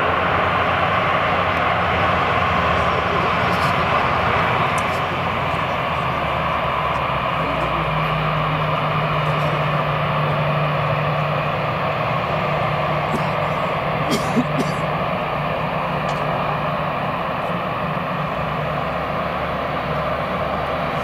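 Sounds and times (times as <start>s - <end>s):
jet engines rushing: 0.0s - 21.0s
steady low hum: 0.0s - 21.0s.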